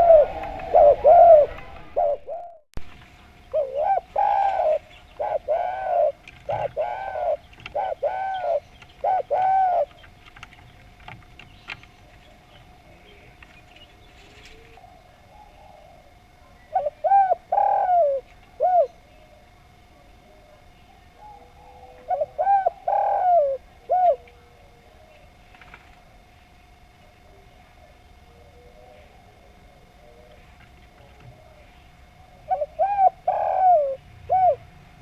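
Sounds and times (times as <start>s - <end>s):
dove cooing: 0.0s - 2.6s, 3.3s - 35.0s.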